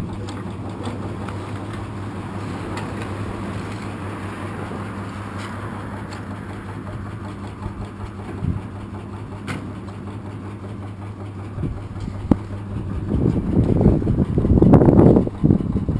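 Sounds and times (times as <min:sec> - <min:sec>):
electric motor humming: 0:00.0 - 0:09.4, 0:11.4 - 0:15.9
rough rumble: 0:00.0 - 0:09.5, 0:11.4 - 0:15.9.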